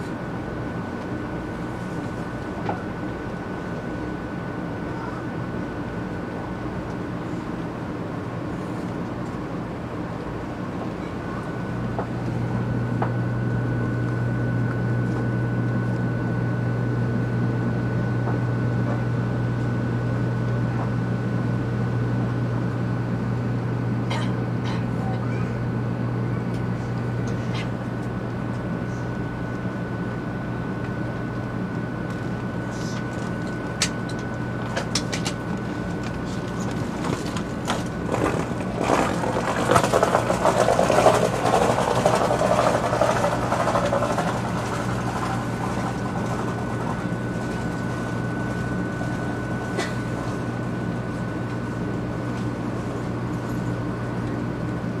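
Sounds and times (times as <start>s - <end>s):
train running hum: 0.0s - 55.0s.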